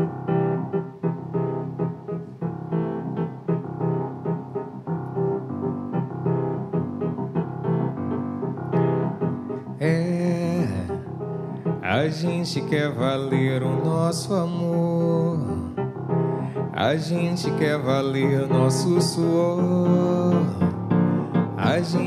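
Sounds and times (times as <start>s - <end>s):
solo piano playing: 0.0s - 22.0s.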